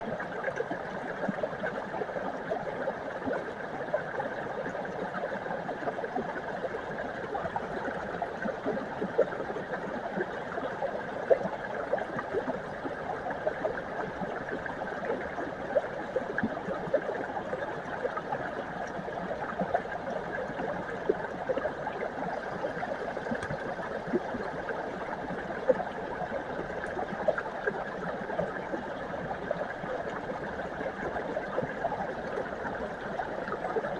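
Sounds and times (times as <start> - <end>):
brook babbling: 0.0 - 33.9.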